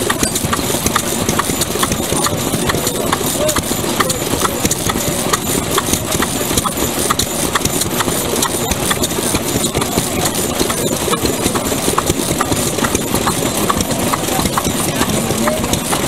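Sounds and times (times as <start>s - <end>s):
old stationary engine chuffing: 0.0s - 16.0s.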